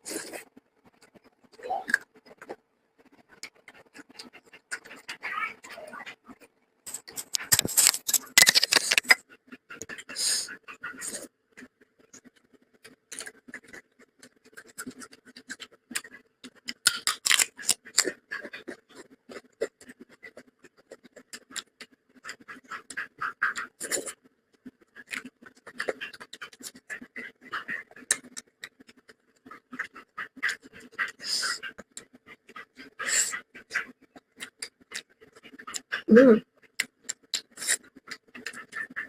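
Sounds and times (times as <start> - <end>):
chewing and mouthing food: 0.0 - 39.0.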